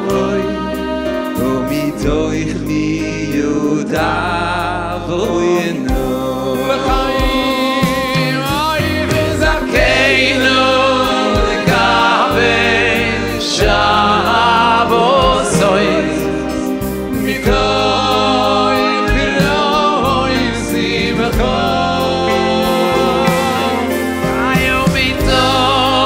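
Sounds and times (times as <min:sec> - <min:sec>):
bass line: 0:00.0 - 0:26.0
voices singing together: 0:00.0 - 0:26.0.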